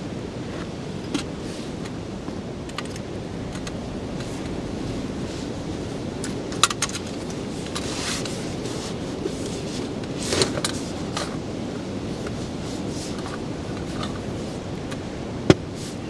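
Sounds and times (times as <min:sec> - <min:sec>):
blizzard wind rushing: 0:00.0 - 0:16.0.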